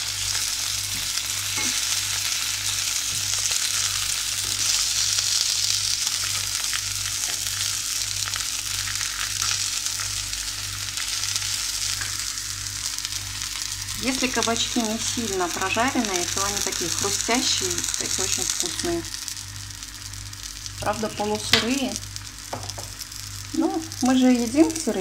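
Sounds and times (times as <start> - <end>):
zucchini sizzling in frying pan: 0.0 - 25.0.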